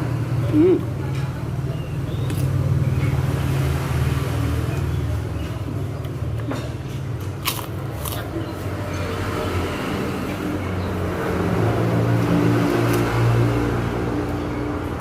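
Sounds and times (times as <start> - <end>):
low rumble of motor vehicles: 0.0 - 15.0.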